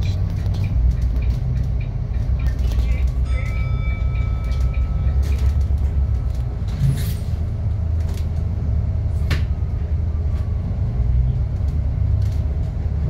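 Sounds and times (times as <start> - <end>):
bus engine drone and road noise: 0.0 - 13.0.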